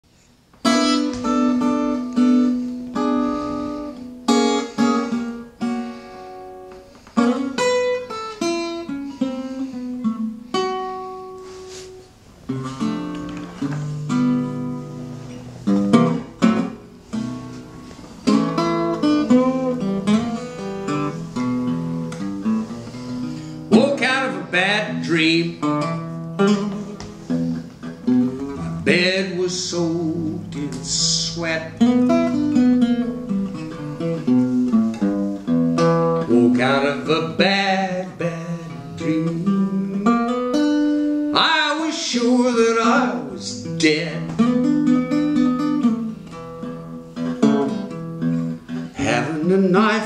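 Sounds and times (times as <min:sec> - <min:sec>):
acoustic guitar blues: 0:00.2 - 0:50.0.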